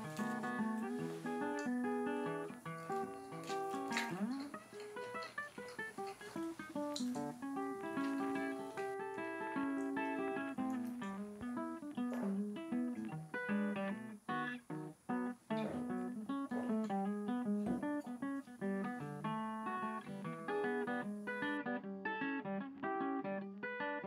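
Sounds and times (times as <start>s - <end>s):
plucked acoustic guitar tune: 0.0s - 24.0s.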